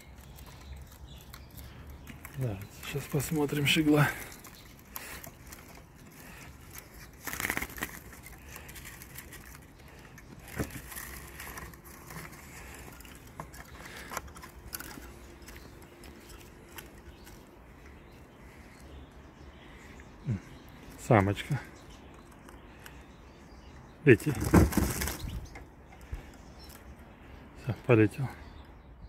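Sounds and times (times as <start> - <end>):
rustling in a wooden cage: 0.0 - 27.6.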